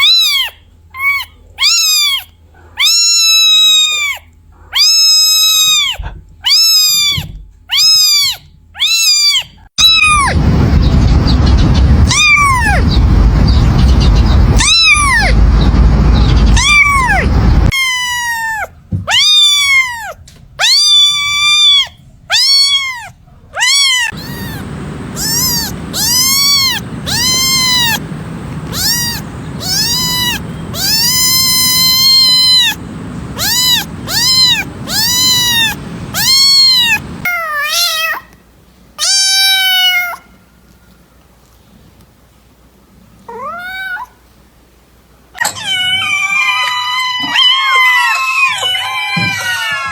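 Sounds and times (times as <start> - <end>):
cat meowing: 0.0 - 10.3, 14.5 - 38.2, 39.0 - 40.2, 43.3 - 44.2, 45.4 - 49.9.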